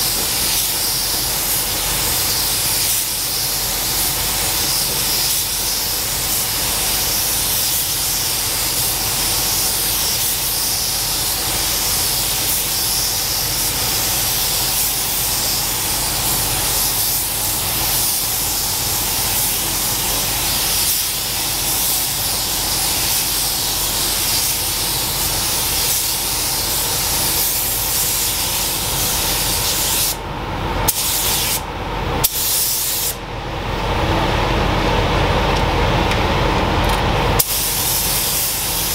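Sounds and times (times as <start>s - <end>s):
paint spray gun hissing: 0.0s - 30.2s, 30.9s - 31.6s, 32.2s - 33.2s, 37.4s - 38.9s.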